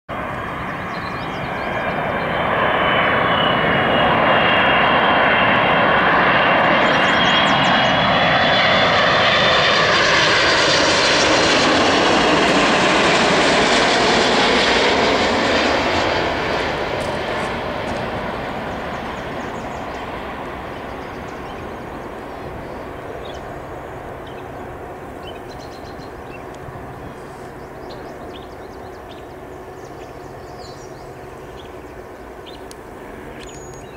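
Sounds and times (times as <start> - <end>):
jet airliner passing overhead: 0.1 - 33.9.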